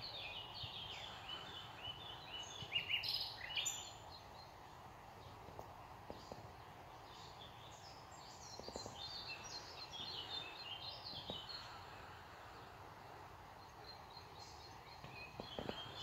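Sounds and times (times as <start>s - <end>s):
faint steady hiss: 0.0s - 16.0s
songbirds chirping and trilling: 0.0s - 16.0s.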